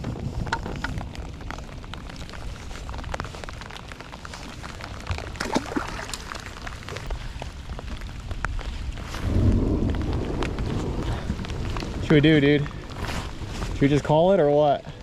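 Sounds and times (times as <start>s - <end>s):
wind rumble on microphone: 0.0s - 5.4s, 6.4s - 15.0s
raindrops tapping: 0.0s - 15.0s.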